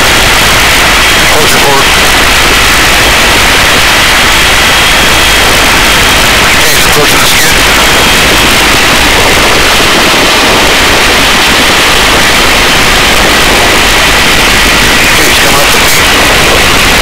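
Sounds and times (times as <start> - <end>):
faint high whine: 0.0 - 17.0
helicopter rushing roar: 0.0 - 17.0.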